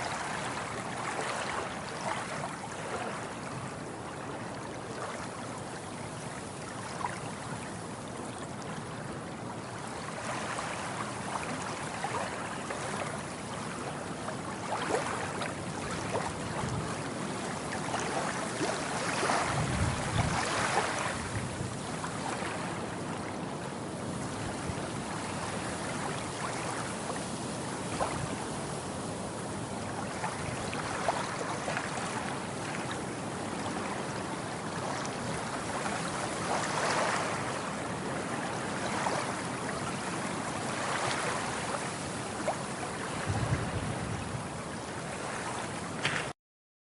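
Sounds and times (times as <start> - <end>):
sea waves washing in: 0.0 - 46.3.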